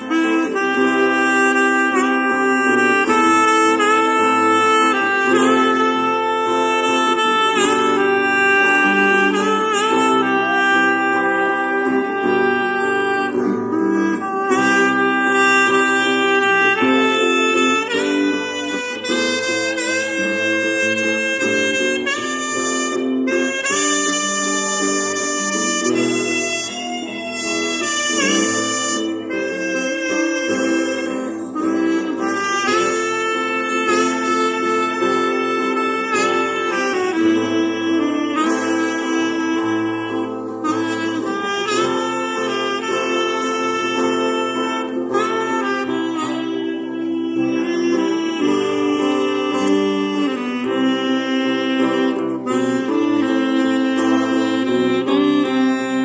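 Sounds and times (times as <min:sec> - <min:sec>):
instrumental accompaniment: 0:00.0 - 0:56.0
saxophone slow melody: 0:00.0 - 0:56.0.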